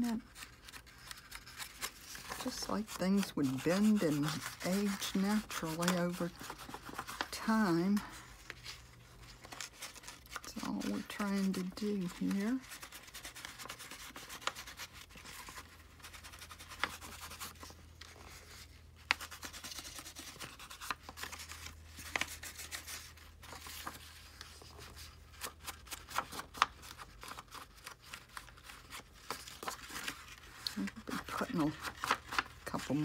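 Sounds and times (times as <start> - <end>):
paper rustling: 0.0 - 33.0.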